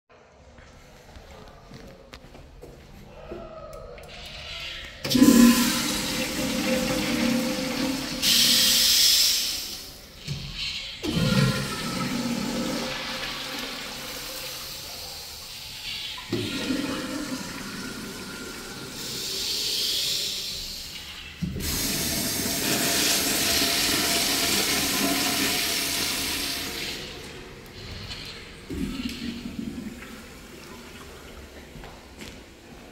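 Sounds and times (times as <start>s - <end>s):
urinal flushing: 4.0s - 32.9s.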